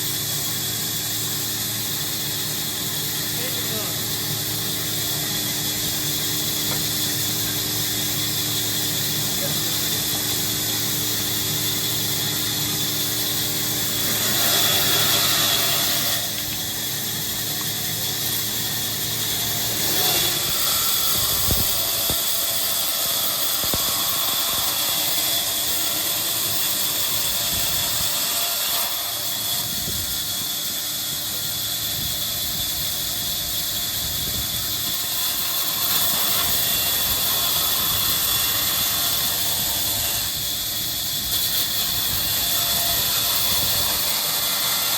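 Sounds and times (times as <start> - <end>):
woodworking machinery running: 0.0 - 44.9.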